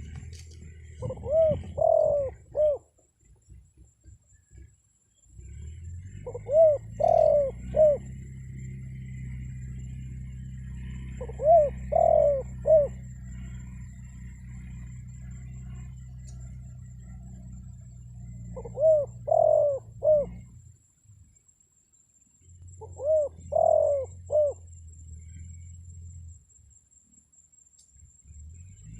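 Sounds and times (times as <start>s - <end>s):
dove cooing: 0.0s - 4.8s, 5.4s - 20.6s, 22.7s - 25.9s
low steady hum: 0.0s - 28.9s.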